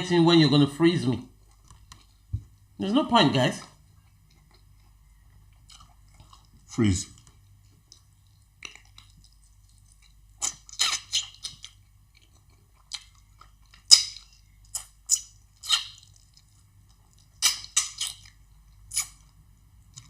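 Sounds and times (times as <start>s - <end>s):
faint steady hum: 0.0s - 20.0s
chewing and mouth smacking: 3.6s - 20.0s.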